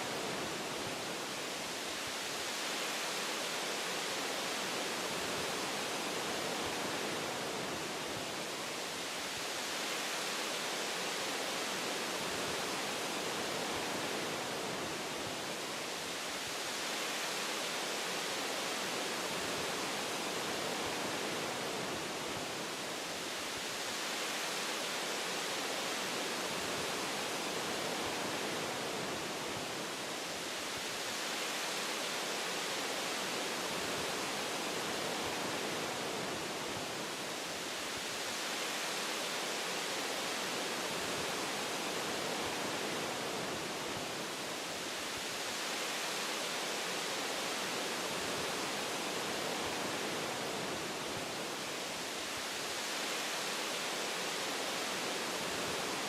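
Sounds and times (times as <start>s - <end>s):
wind through tree branches: 0.0s - 56.0s.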